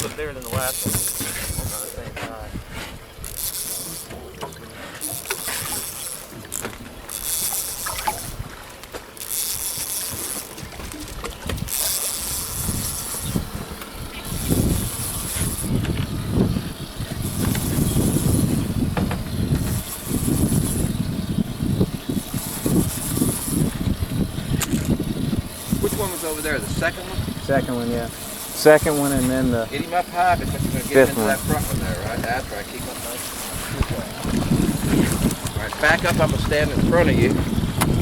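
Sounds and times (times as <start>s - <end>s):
wind buffeting microphone: 0.0s - 8.8s, 9.5s - 38.0s
low rumbling: 0.0s - 38.0s
water noise: 0.0s - 38.0s.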